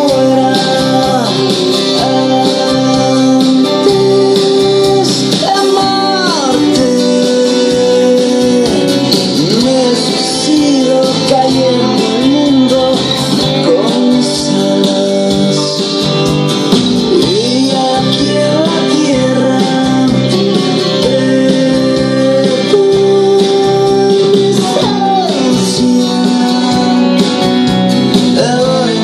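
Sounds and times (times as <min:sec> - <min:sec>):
guitar music through speakers: 0:00.0 - 0:29.0.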